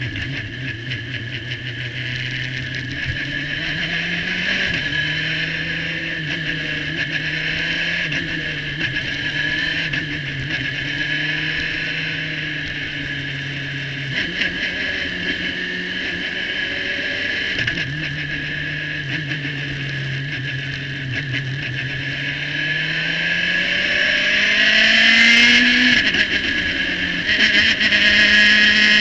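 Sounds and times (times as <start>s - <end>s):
car engine running: 0.0s - 24.6s, 25.2s - 29.0s
high whine: 0.0s - 29.0s.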